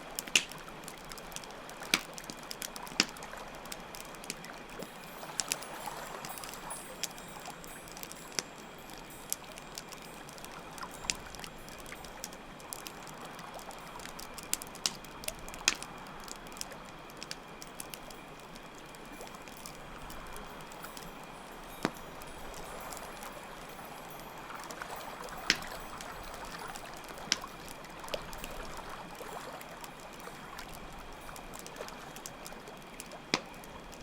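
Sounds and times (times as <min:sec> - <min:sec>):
water flowing: 0:00.0 - 0:33.6
campfire crackling and popping: 0:00.0 - 0:34.0
crickets chirping: 0:04.5 - 0:34.0.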